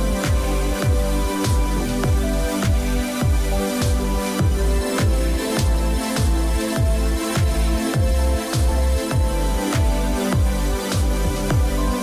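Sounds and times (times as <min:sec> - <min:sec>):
sustained synth chords: 0:00.0 - 0:12.0
deep kick drums: 0:00.2 - 0:11.9.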